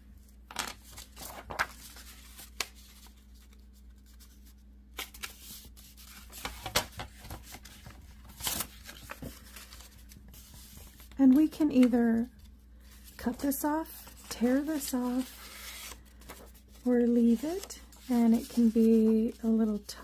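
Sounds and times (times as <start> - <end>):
paper rustling: 0.5 - 20.0.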